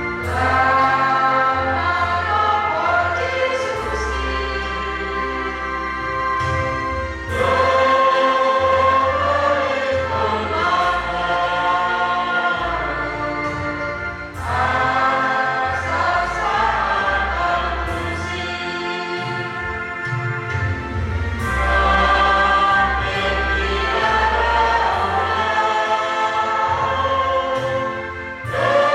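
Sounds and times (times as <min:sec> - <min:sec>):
choir singing a hymn: 0:00.0 - 0:28.9
sustained low accompaniment: 0:00.0 - 0:28.9.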